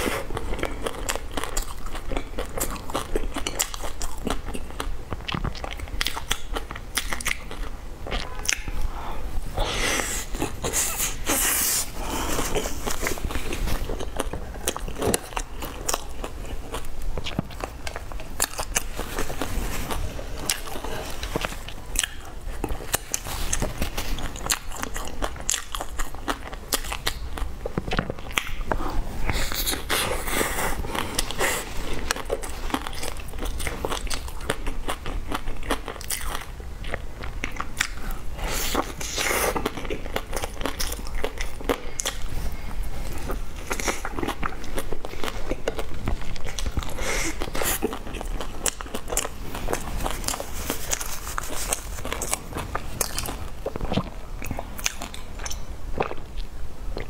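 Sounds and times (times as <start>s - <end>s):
chewing with soft crunches: 0.0s - 9.0s, 10.0s - 57.0s.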